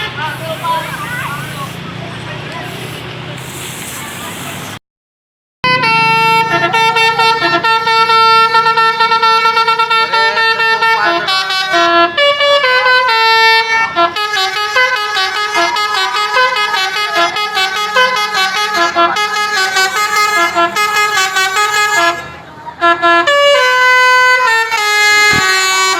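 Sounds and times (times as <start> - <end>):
bus musical air horn: 0.0 - 2.0, 5.6 - 25.9.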